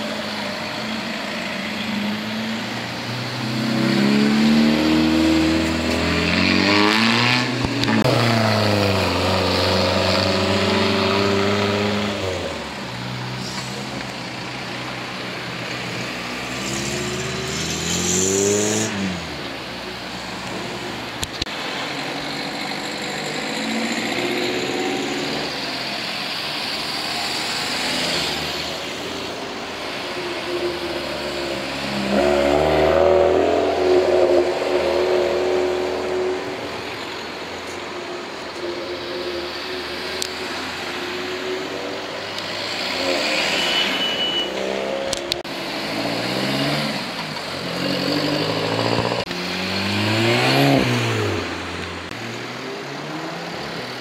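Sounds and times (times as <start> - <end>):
cars accelerating and revving: 0.0 - 54.0.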